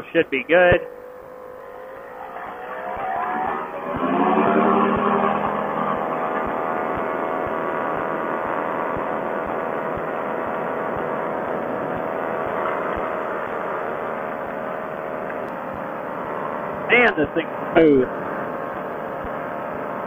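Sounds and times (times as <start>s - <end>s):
light aircraft engine and propeller: 0.0s - 3.0s, 3.7s - 20.0s.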